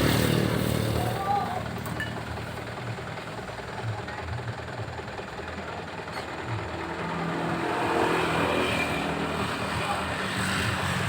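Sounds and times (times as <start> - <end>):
road noise: 0.0 - 11.0
truck engine running: 0.0 - 11.0.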